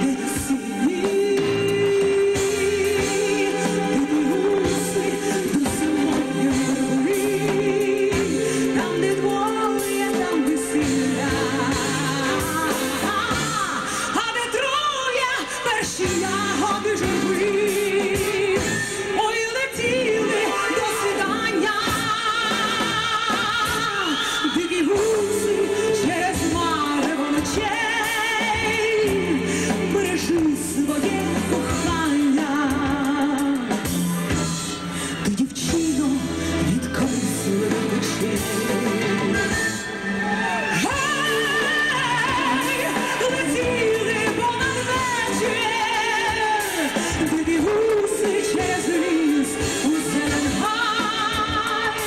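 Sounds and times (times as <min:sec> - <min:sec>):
woman singing with vibrato: 0:00.0 - 0:52.0.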